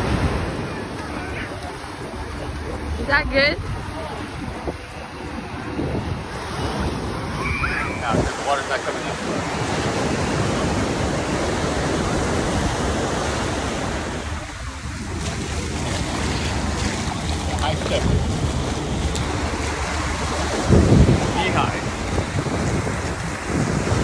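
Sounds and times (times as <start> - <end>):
ocean surf breaking on shore: 0.0 - 24.0
wind buffeting microphone: 0.0 - 24.0.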